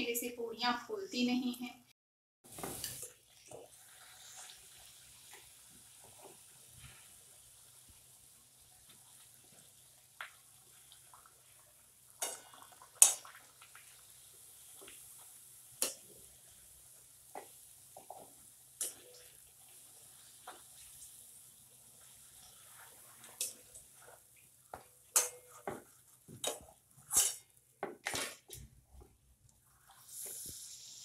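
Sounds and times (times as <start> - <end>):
food sizzling in hot oil: 2.5 - 28.3, 29.6 - 31.0.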